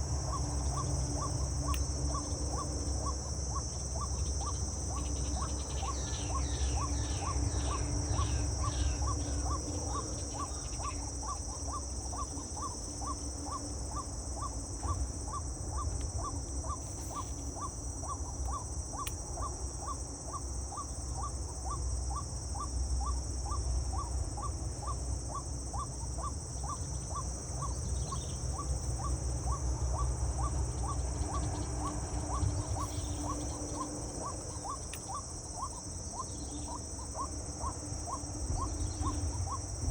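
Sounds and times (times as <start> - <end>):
bird calling: 0.0 - 39.9
high-pitched insect drone: 0.0 - 39.9.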